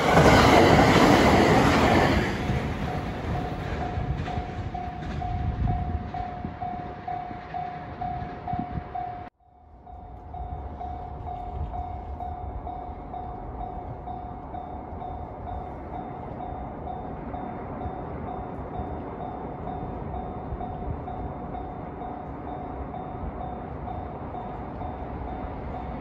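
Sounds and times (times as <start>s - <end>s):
level-crossing warning bell ringing: 0.0s - 26.0s
rumble of passing train: 0.0s - 26.0s.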